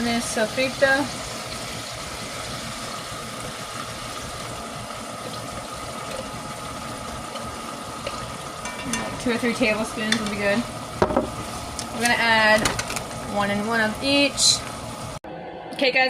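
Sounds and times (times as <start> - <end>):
ham sizzling in hot oil: 0.0 - 15.2.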